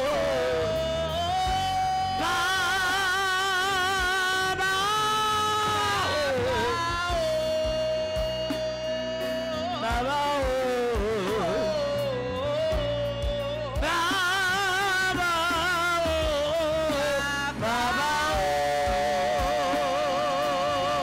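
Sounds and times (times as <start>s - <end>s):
band accompaniment with beat: 0.0s - 21.0s
woman singing gospel song: 0.0s - 21.0s.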